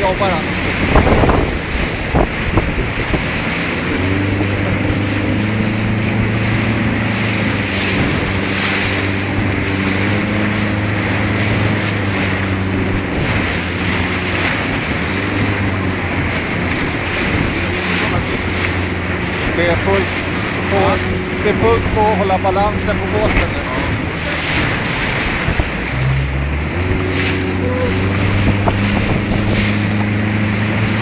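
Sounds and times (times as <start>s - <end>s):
motorboat engine drone: 0.0s - 31.0s
water rushing and spraying: 0.0s - 31.0s
wind buffeting microphone: 0.0s - 31.0s.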